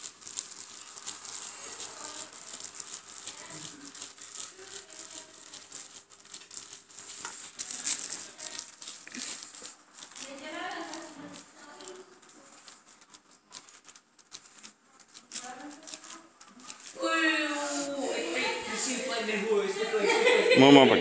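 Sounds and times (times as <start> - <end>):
plastic wrap crinkling: 0.0 - 20.6.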